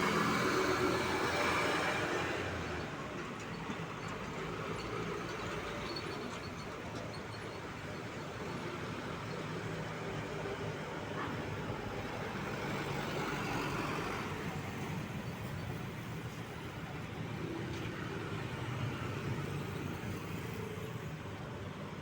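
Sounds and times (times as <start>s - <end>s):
tyres on the road: 0.0s - 22.0s.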